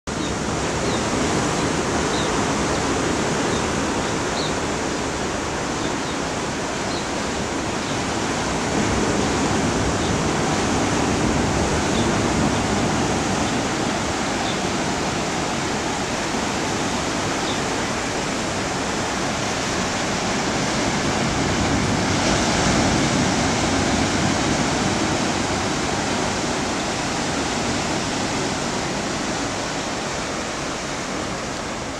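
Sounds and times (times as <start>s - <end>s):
surf breaking on rocky shore: 0.4s - 31.9s.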